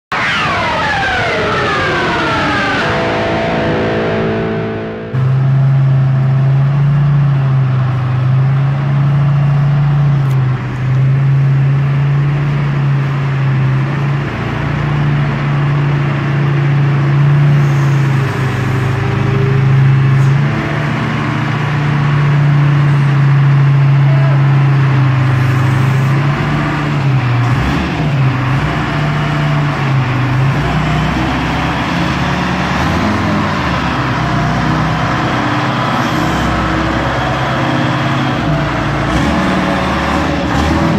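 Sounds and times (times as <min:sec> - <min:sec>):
forklift engine running: 0:00.0 - 0:40.9.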